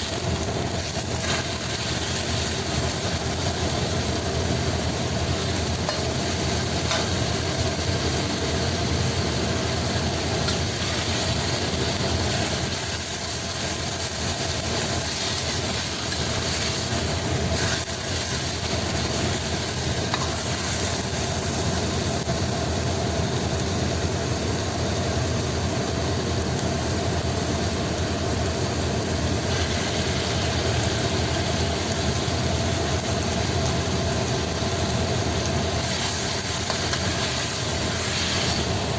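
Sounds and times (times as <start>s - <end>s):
low mechanical hum: 0.0s - 38.9s
noodles hissing in a wok: 0.0s - 38.9s.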